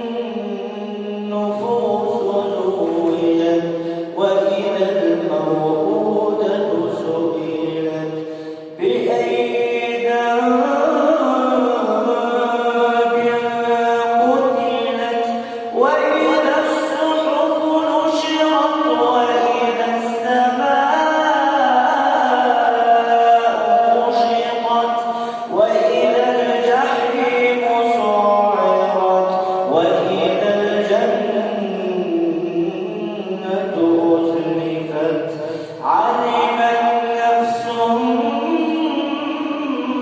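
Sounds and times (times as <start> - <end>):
man chanting melodically: 0.0 - 40.0.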